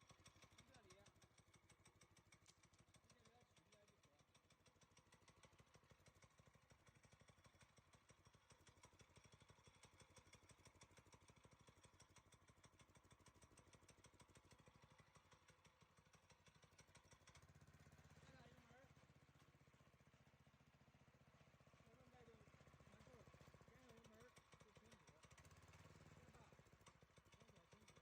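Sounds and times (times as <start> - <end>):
small petrol engine running: 0.0 - 28.0.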